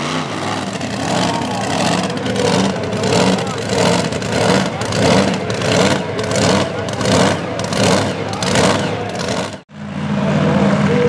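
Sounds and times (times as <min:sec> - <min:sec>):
pulling truck engine surging: 0:00.0 - 0:11.0.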